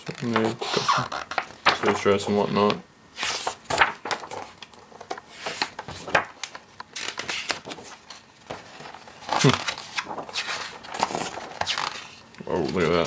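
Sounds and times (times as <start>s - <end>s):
book pages turning: 0.0s - 2.0s, 3.2s - 13.0s
paper rustling and tapping: 0.0s - 2.8s, 3.4s - 13.0s.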